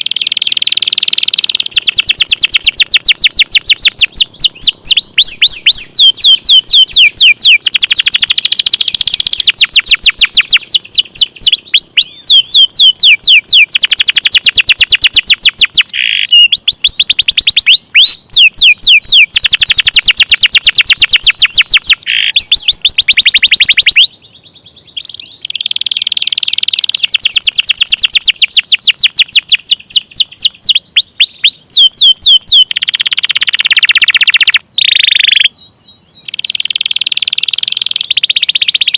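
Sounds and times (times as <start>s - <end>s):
canary trilling: 0.0s - 38.9s.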